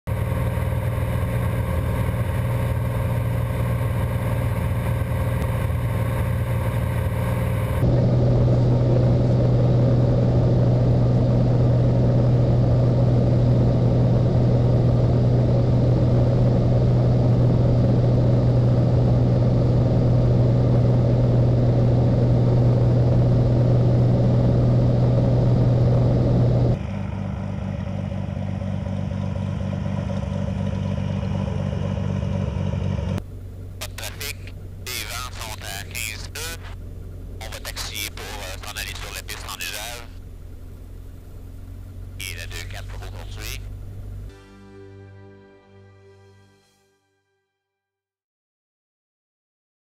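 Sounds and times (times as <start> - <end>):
aircraft engine drone: 0.1 - 47.0.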